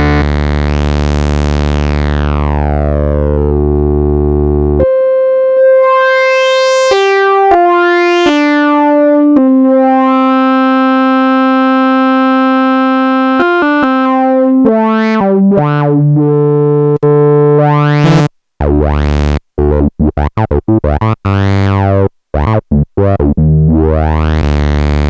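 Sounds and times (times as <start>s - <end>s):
synthesizer notes with filter sweeps: 0.0s - 25.0s.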